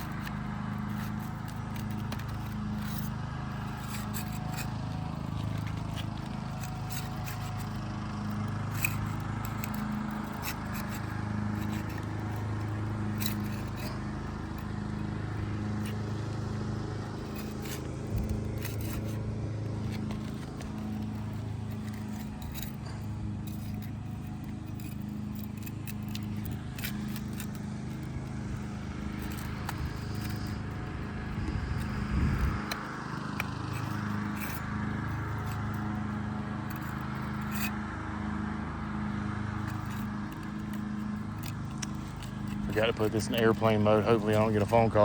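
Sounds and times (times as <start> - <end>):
steady low hum: 0.0 - 45.0
trowel scraping roof shingles: 0.0 - 45.0.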